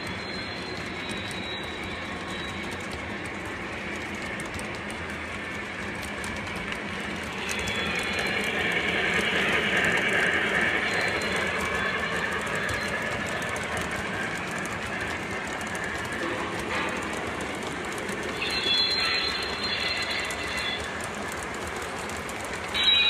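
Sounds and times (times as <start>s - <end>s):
model steam locomotive passing: 0.0s - 23.0s
model trains rolling on track: 0.0s - 23.0s.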